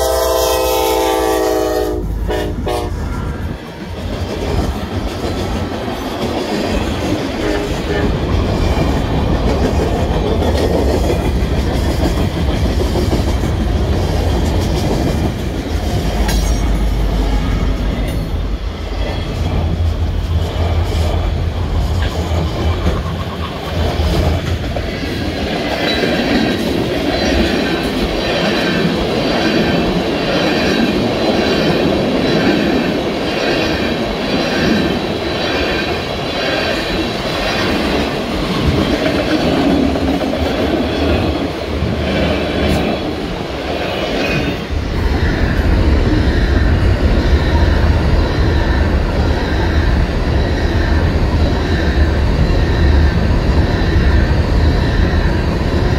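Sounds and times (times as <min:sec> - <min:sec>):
train wheels rumbling on track: 0:00.0 - 0:55.9
train wheels clacking: 0:02.2 - 0:55.9.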